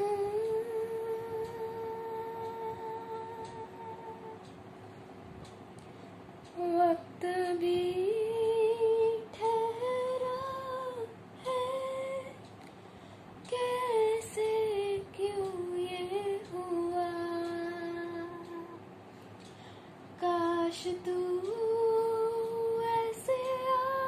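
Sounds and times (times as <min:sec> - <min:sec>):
girl singing wordless melody: 0:00.0 - 0:04.7, 0:05.9 - 0:24.0.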